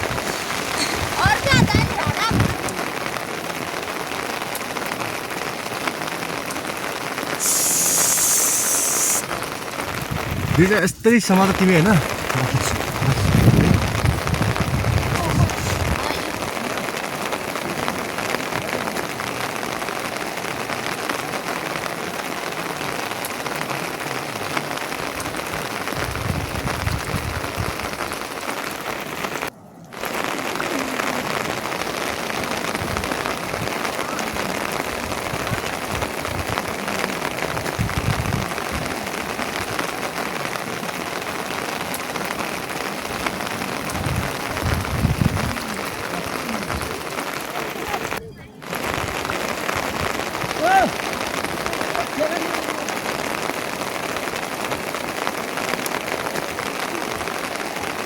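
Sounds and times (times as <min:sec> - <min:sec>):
dense rain falling: 0:00.0 - 0:58.0.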